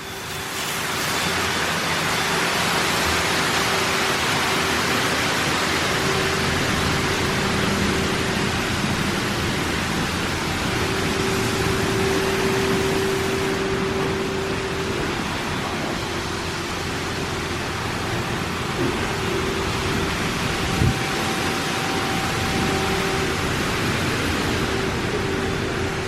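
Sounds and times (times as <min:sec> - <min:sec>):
water spray hissing on car: 0:00.0 - 0:26.0.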